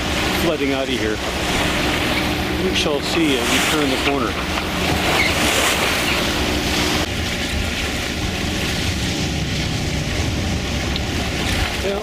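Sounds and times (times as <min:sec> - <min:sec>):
boat engine droning: 0:00.0 - 0:12.0
waves: 0:00.0 - 0:12.0
wind: 0:00.0 - 0:12.0.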